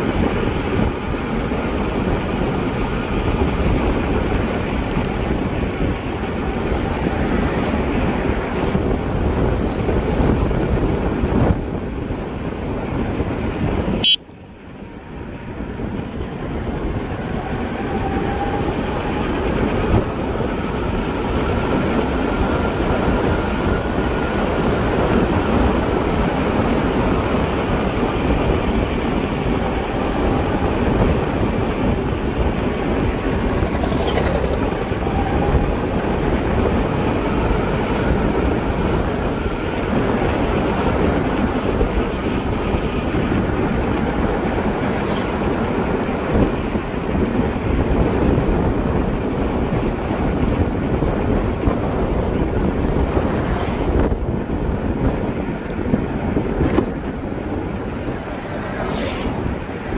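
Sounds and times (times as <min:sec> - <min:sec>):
tyres rolling on rough asphalt: 0:00.0 - 0:59.9
wind rumble on microphone: 0:00.0 - 0:59.9.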